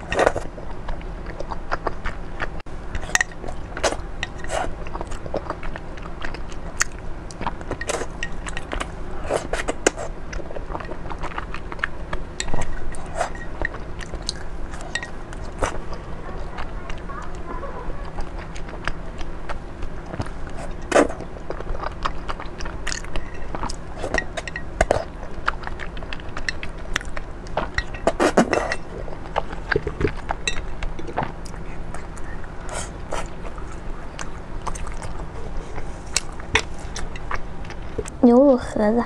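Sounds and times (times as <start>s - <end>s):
chewing and slurping food: 0.0s - 38.1s.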